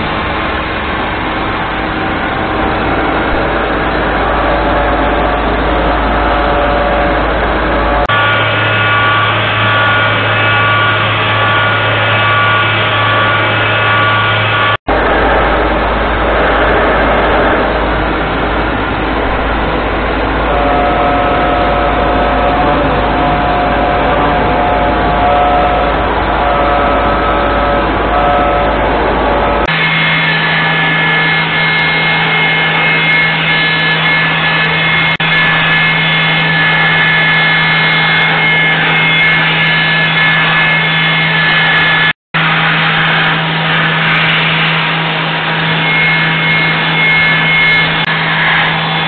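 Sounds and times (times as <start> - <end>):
machine noise with high whines: 0.0 - 49.0.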